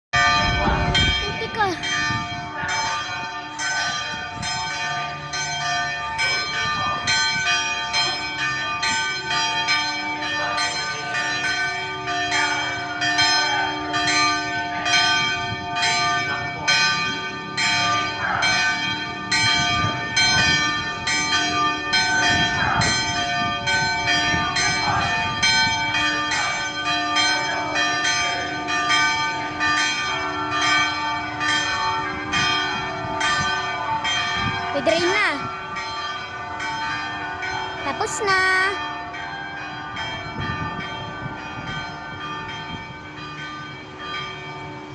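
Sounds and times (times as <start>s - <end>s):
church bells pealing: 0.2s - 44.9s.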